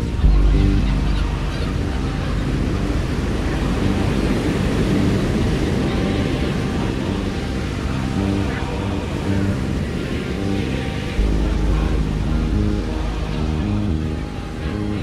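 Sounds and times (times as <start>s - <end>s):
deep rumble: 0.0s - 15.0s
sea waves rushing: 0.0s - 15.0s
wind: 0.0s - 15.0s.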